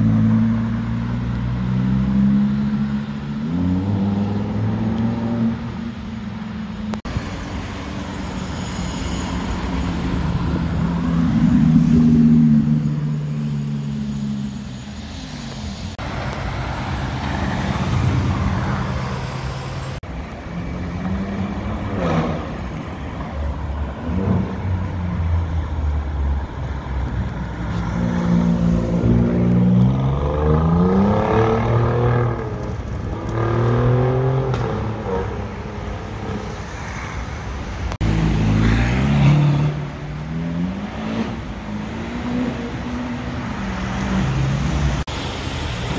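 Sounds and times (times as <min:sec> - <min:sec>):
car engines revving and accelerating: 0:00.0 - 0:45.9.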